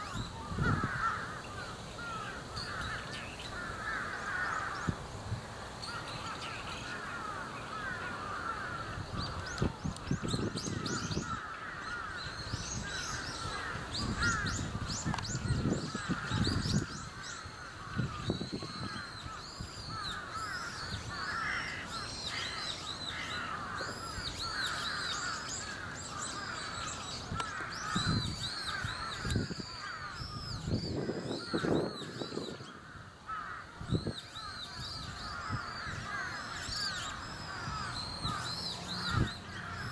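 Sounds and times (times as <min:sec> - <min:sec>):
chorus of birds calling: 0:00.0 - 0:39.9.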